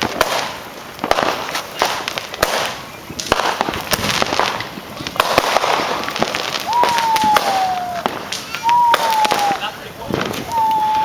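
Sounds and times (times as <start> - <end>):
fireworks banging: 0.0 - 11.0
fireworks crackling: 0.0 - 11.0.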